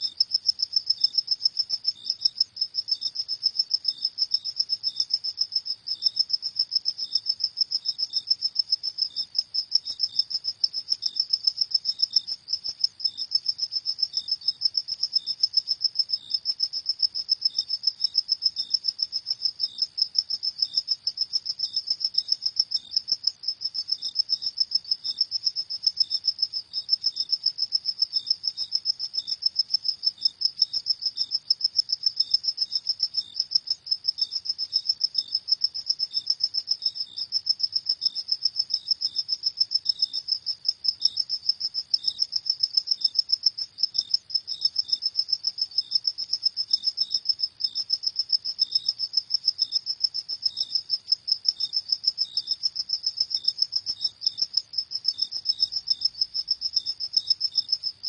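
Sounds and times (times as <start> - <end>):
lower repeating cricket chirp: 0.0 - 58.0.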